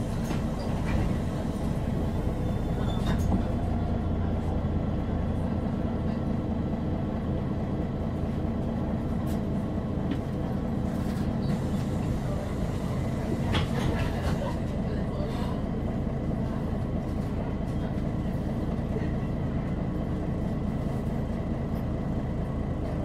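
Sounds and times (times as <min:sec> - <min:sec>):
bus diesel engine drone: 0:00.0 - 0:23.0.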